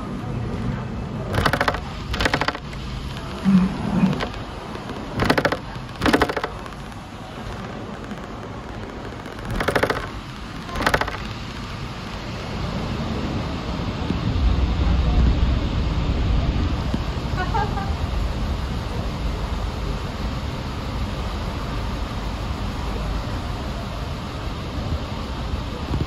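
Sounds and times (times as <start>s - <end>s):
tram rumbling: 0.0s - 26.0s.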